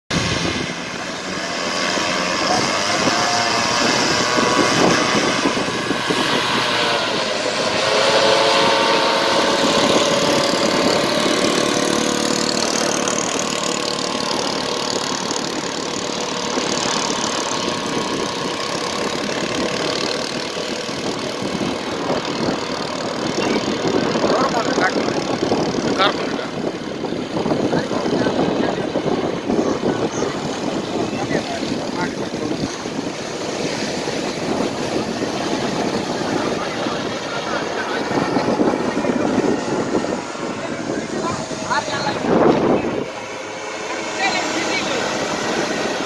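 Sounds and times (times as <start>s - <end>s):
paramotor engine and propeller: 0.1s - 46.0s.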